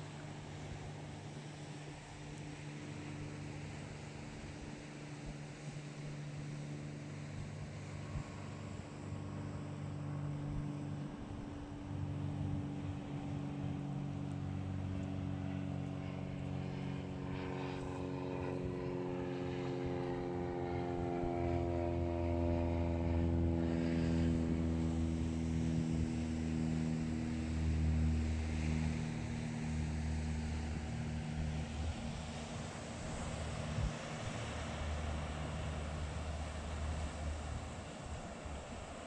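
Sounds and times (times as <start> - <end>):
engine droning: 0.0 - 39.0.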